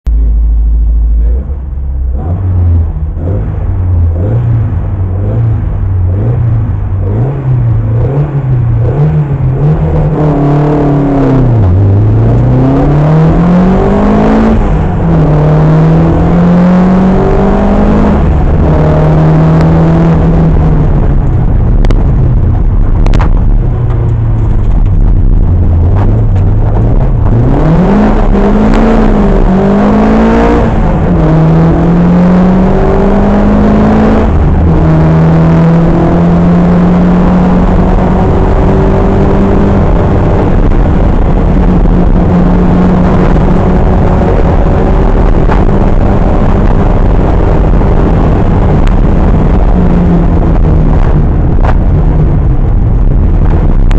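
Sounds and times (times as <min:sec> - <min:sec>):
rally car engine revving: 0:00.1 - 0:53.9.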